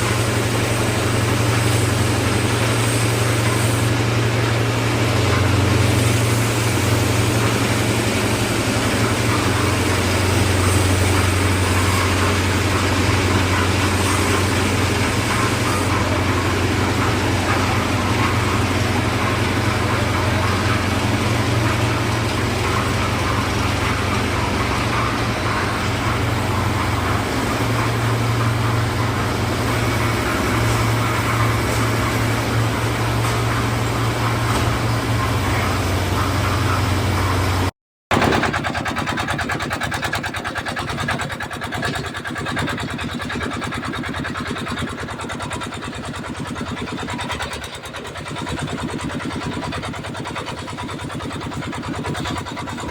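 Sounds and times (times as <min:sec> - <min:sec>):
machine with fast even chatter: 0:00.0 - 0:32.9, 0:38.1 - 0:52.9
concrete mixer engine humming: 0:00.0 - 0:52.9.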